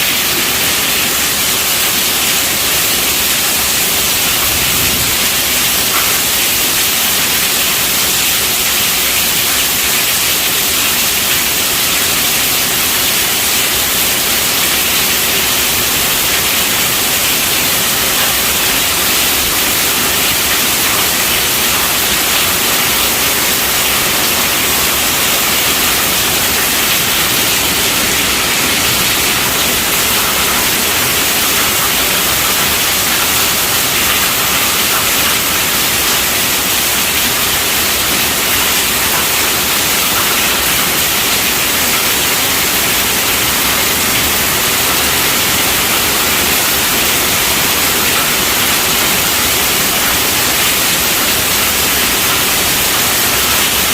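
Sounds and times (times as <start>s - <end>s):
heavy rainfall: 0.0s - 53.9s.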